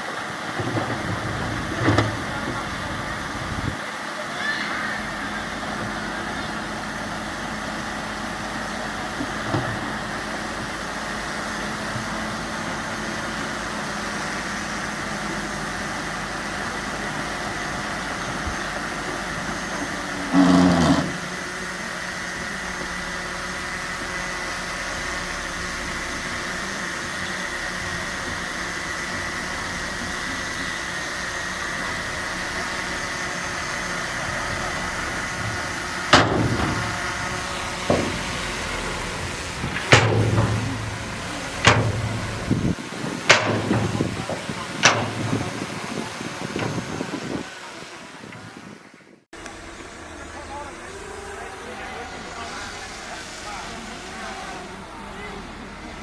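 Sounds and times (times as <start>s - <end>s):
bulldozer engine droning: 0.0s - 56.0s
low-pitched engine burst: 0.0s - 56.0s.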